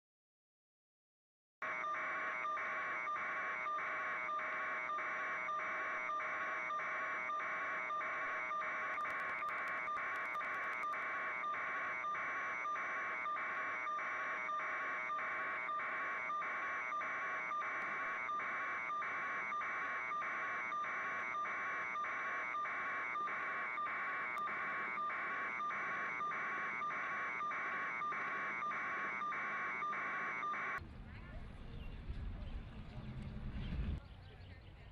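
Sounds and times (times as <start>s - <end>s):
electronic alarm beeping: 1.6s - 30.8s.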